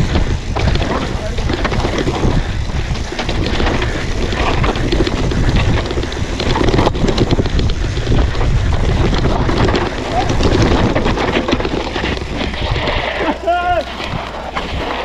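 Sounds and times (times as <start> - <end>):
bike rattling clicks and knocks: 0.0 - 15.0
bike tyres on dirt: 0.0 - 15.0
wind buffeting microphone: 0.0 - 15.0.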